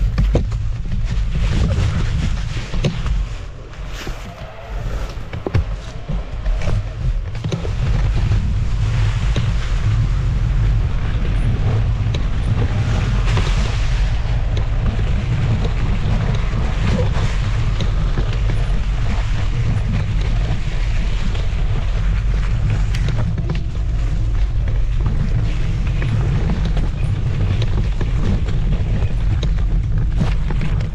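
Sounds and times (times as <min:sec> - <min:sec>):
electric scooter rumbling and rattling: 0:00.0 - 0:30.9
wind buffeting microphone: 0:00.0 - 0:30.9.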